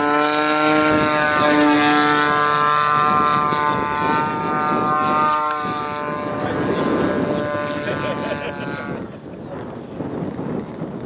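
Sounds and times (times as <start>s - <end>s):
model plane engine buzzing: 0.0s - 11.0s.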